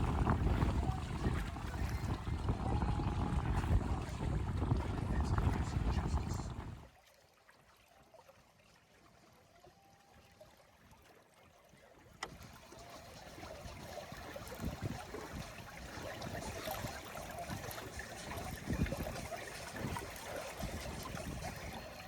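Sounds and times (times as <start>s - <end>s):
water lapping against a hull: 0.0s - 22.0s.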